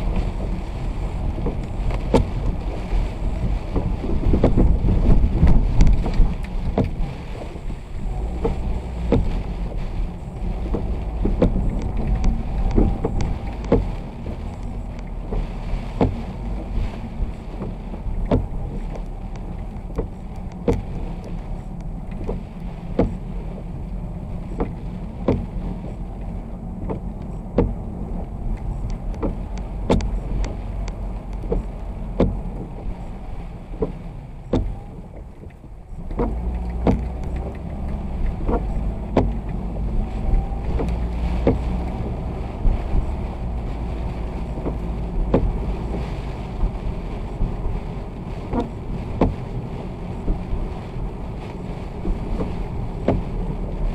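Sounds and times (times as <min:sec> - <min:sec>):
engine and wet road rumble: 0:00.0 - 0:53.9
windshield wiper clicks: 0:00.0 - 0:53.9.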